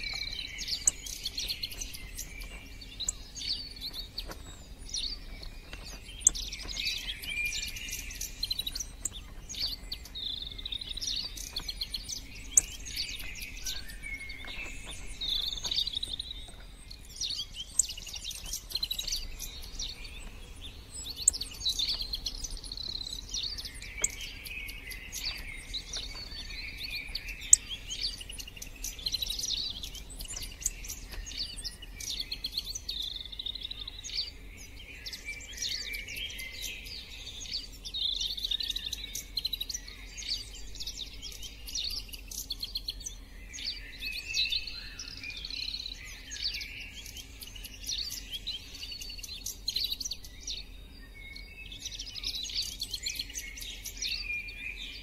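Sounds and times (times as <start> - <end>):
small birds twittering: 0.0 - 55.0.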